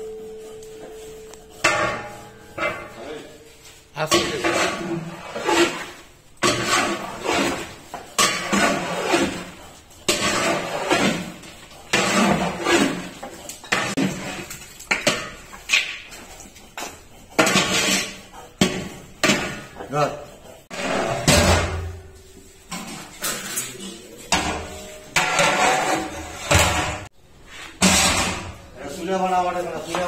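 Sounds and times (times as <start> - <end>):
metal spatula scraping cooking pot: 0.0 - 28.8.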